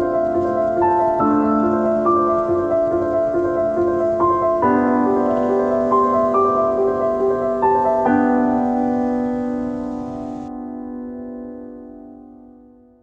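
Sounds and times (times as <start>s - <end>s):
gentle keyboard music: 0.0s - 13.0s.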